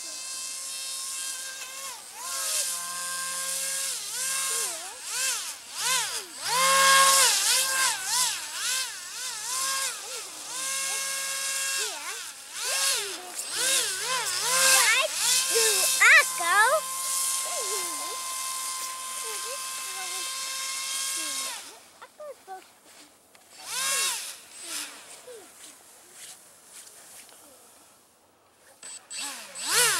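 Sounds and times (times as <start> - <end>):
electric motor and propeller whining: 0.0 - 22.2, 23.4 - 27.9, 28.7 - 29.9.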